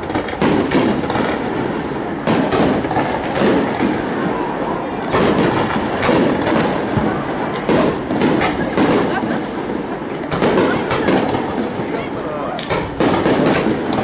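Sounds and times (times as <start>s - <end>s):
fireworks booming: 0.0s - 14.0s
fireworks crackle and rumble: 0.0s - 14.0s.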